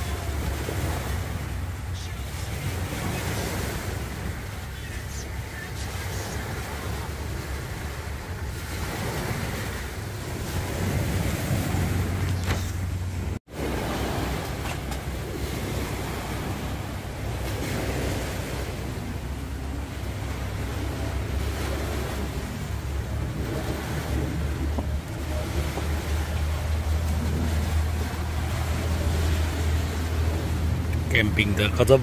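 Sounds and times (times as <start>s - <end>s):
wind rumbling on microphone: 0.0s - 31.1s
waves washing: 0.0s - 32.0s.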